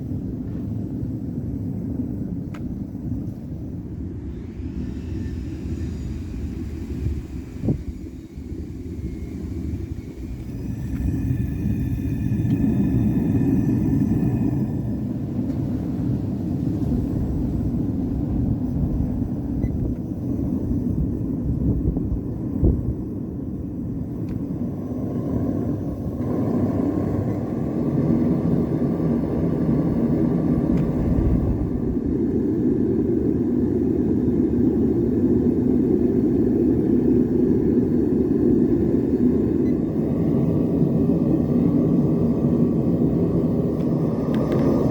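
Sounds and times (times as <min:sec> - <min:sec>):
gas burner roaring: 0:00.0 - 0:44.9.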